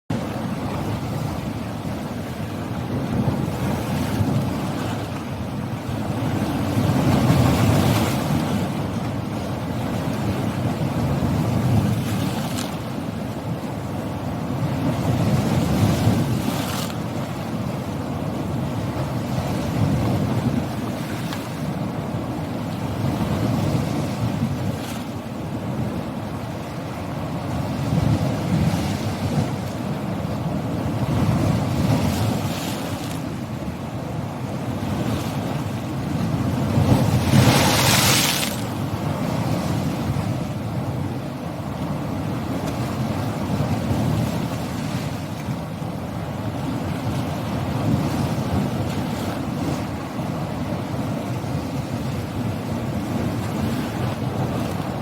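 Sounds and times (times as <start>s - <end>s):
sea waves breaking: 0.1s - 55.0s.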